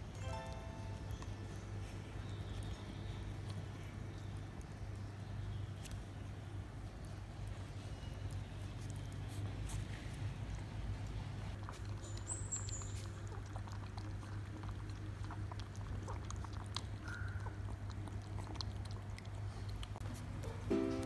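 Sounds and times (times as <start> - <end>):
puppies lapping milk: 0.0 - 21.0.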